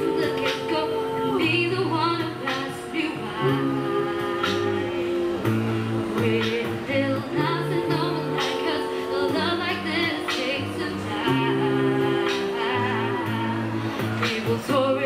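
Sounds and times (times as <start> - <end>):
beatboxing: 0.0 - 15.0
low sung bass line: 0.0 - 15.0
women singing in harmony: 0.0 - 15.0.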